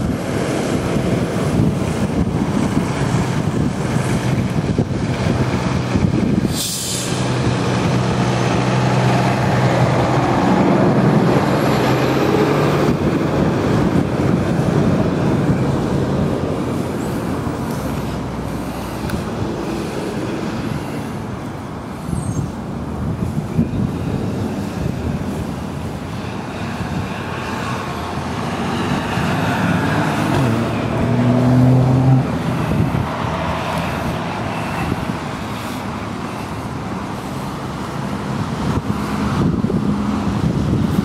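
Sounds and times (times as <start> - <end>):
large vehicle engine humming: 0.0 - 41.0
traffic noise: 0.0 - 41.0
wind: 0.0 - 41.0.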